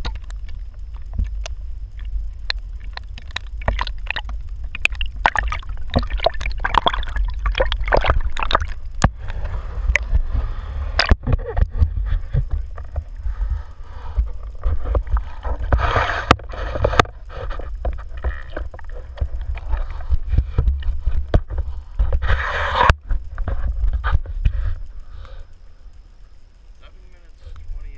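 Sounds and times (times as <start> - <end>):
water splashing around a boat: 0.0 - 22.9
steady low rumble: 0.0 - 27.9.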